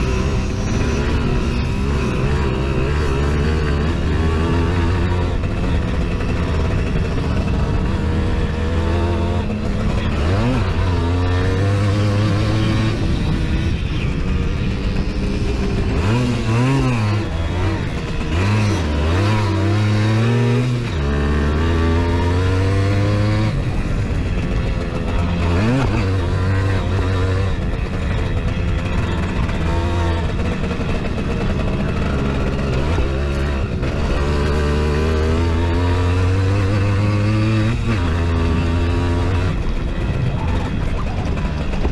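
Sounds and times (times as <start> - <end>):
moped engine revving: 0.0 - 41.9.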